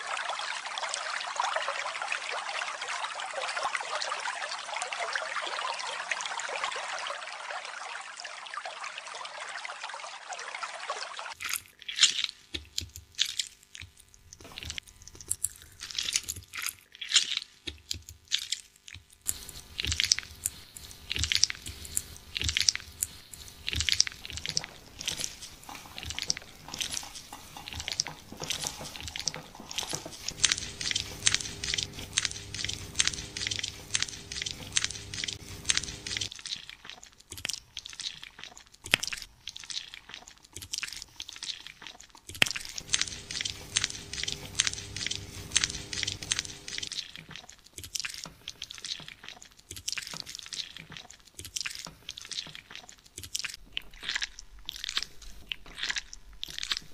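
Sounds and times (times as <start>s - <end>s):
plastic gloves crackling on skin: 11.3s - 56.9s.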